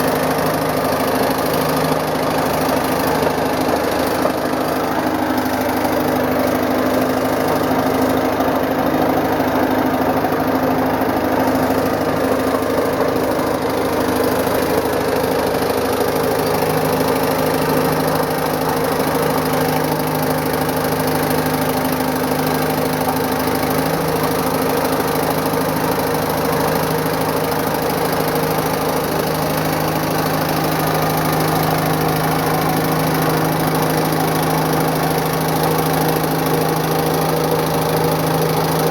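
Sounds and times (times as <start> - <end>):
track loader diesel engine running: 0.0 - 38.9.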